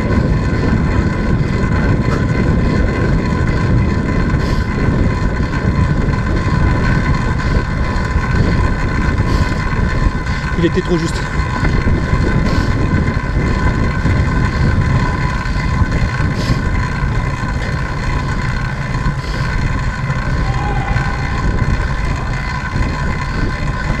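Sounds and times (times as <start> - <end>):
bicycle wheels and chain whine: 0.0 - 24.0
wind rushing over microphone: 0.0 - 24.0.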